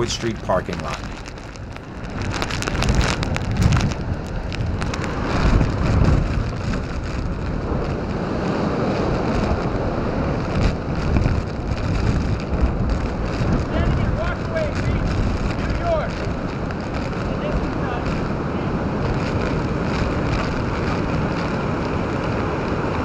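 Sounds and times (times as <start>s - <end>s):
rain: 0.0s - 23.0s
storm waves breaking: 0.0s - 23.0s
storm wind buffeting microphone: 0.0s - 23.0s.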